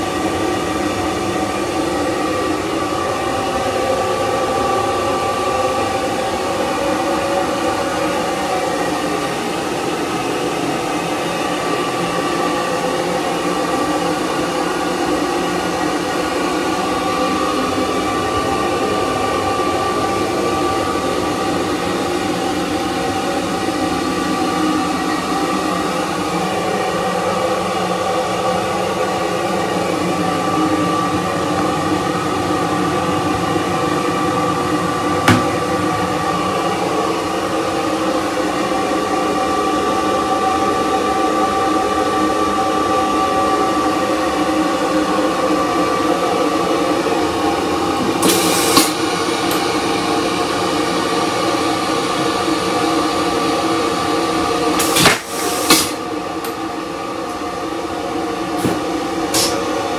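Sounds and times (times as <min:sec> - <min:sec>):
train equipment humming: 0:00.0 - 0:59.9
vacuum toilet flushing: 0:00.0 - 0:59.9.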